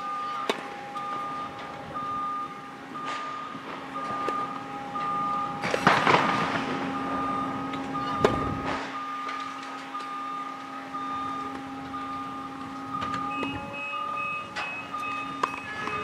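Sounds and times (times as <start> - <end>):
repeating on-off beep: 0.0 - 5.8, 6.9 - 16.0
steady hum: 0.0 - 16.0.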